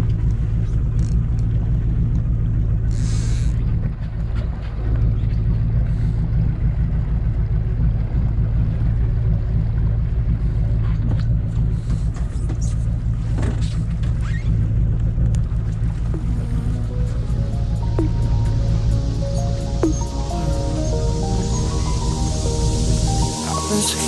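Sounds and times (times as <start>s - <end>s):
boat engine rumbling: 0.0s - 23.8s.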